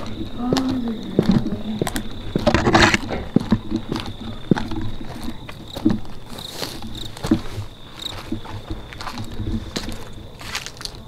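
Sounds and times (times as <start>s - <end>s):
footsteps crunching through dry brush: 0.0s - 11.0s.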